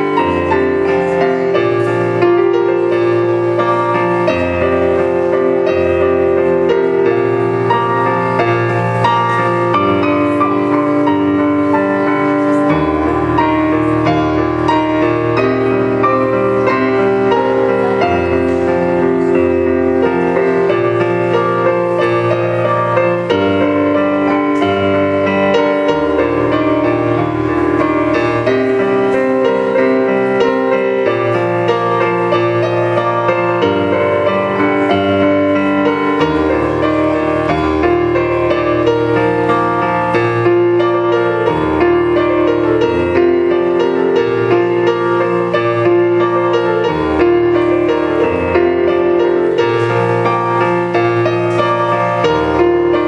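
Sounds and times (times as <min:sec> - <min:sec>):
solo piano: 0:00.0 - 0:53.0.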